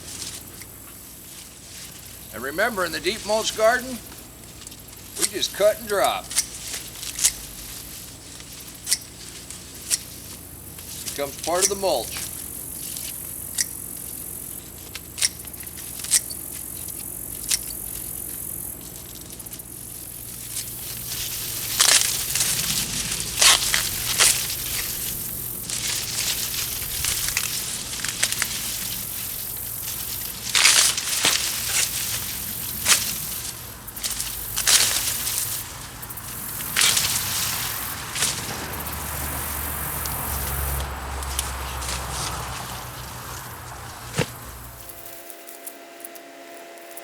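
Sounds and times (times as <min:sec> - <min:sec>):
sharp snaps of corn stalks: 0:00.0 - 0:46.3
corn stalks rustling and crackling: 0:00.0 - 0:47.0.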